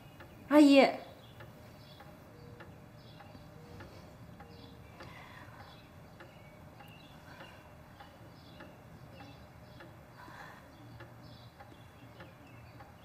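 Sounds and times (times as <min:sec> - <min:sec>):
light ticks: 0:00.0 - 0:00.4, 0:01.2 - 0:13.0.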